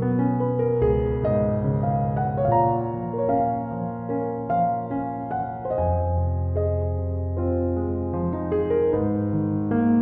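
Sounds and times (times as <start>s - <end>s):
slow keyboard music: 0.0s - 10.0s.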